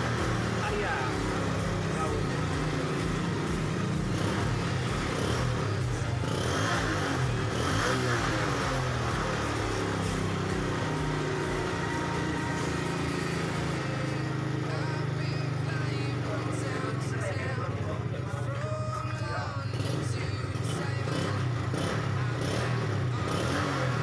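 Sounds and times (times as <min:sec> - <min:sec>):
two-stroke motorcycle engine running: 0:00.0 - 0:24.0.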